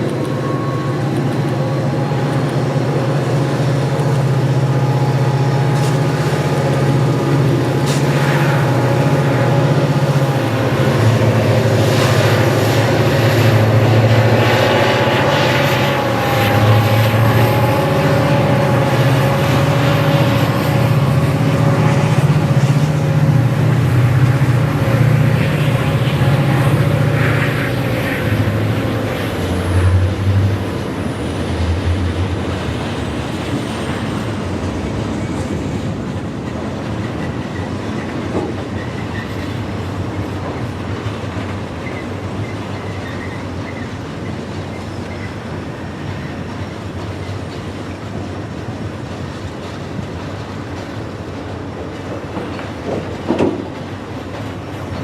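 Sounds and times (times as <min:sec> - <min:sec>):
locomotive engine throb and whine: 0:00.0 - 0:47.2
train wheels rolling: 0:00.0 - 0:55.0.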